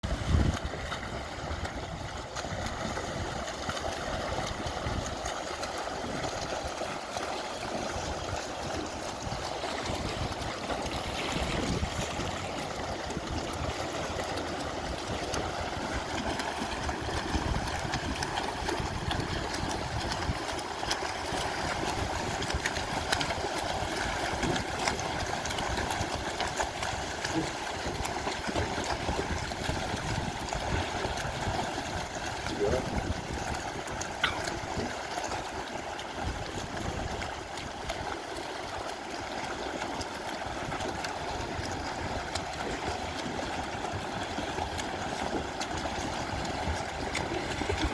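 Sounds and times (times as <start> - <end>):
water splashing and lapping: 0.0 - 47.9.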